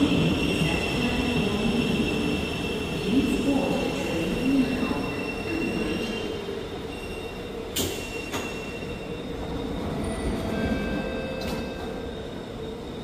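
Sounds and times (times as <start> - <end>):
metro train humming: 0.0 - 13.0.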